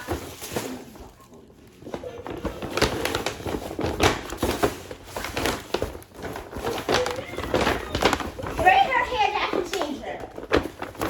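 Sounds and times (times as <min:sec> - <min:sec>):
rustling of things handled: 0:00.0 - 0:11.0.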